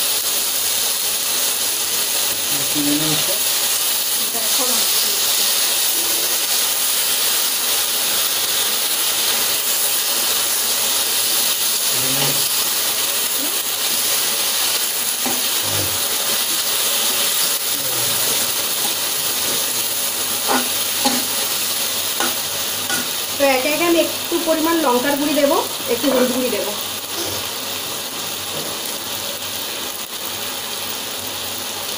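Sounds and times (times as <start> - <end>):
vegetables sizzling in hot oil: 0.0 - 31.9.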